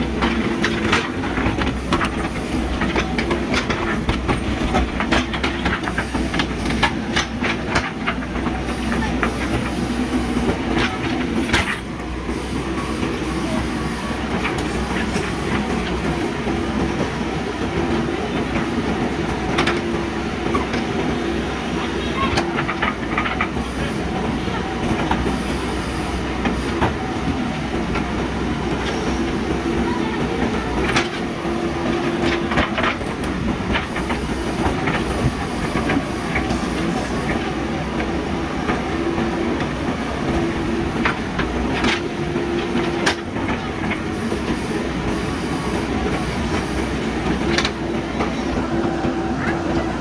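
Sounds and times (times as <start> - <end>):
backhoe diesel engine running: 0.0 - 50.0.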